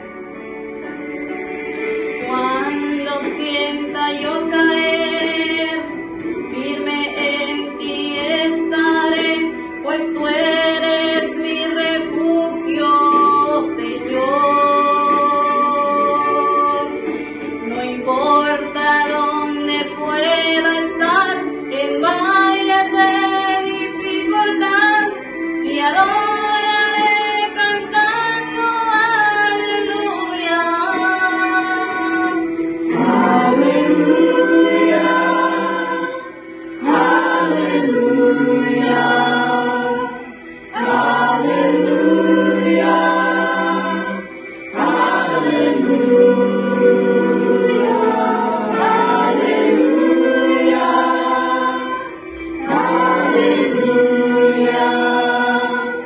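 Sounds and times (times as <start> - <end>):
choir singing a cappella: 1.8 - 56.0
lower voices singing: 2.0 - 56.0.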